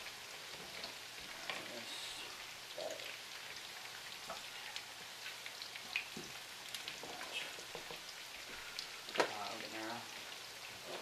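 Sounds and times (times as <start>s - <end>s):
meatballs sizzling in a pan: 0.0s - 11.0s.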